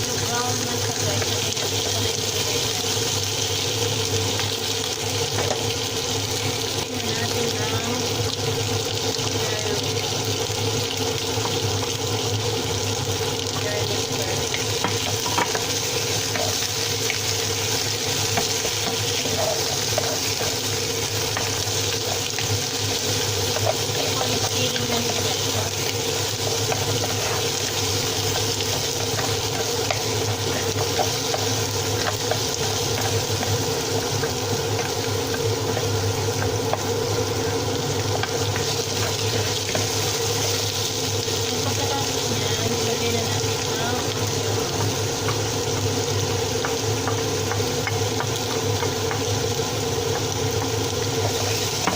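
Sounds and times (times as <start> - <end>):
meat sizzling in a pot: 0.0 - 51.9.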